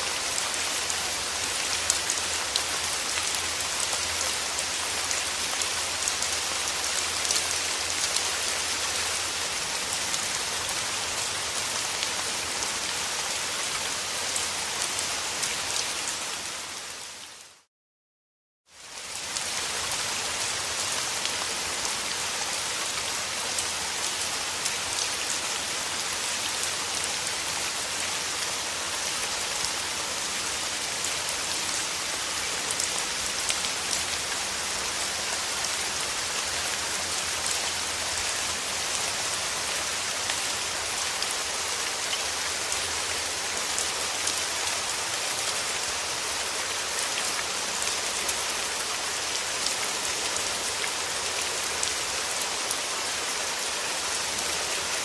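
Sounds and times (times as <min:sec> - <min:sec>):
steady rain falling: 0:00.0 - 0:17.7, 0:18.7 - 0:55.0.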